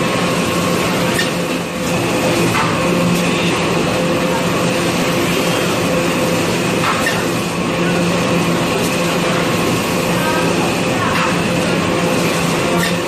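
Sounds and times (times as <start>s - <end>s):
packing machine running: 0.0s - 13.0s.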